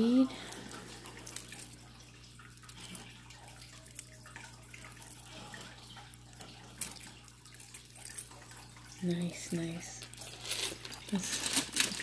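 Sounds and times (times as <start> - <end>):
jewelry clicking and rustling: 0.4 - 12.0.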